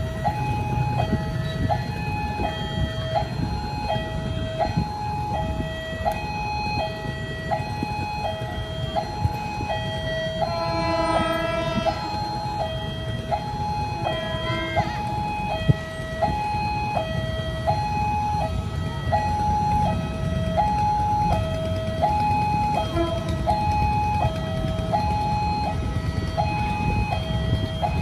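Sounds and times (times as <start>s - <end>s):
level crossing alarm: 0.0s - 28.0s
road traffic rumble: 0.0s - 28.0s.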